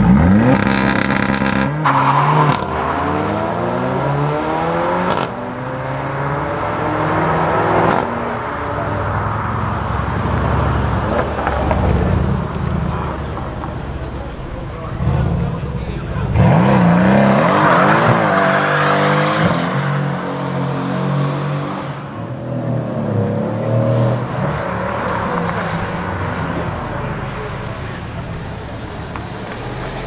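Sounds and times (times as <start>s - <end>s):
sports car accelerating hard: 0.0s - 30.0s.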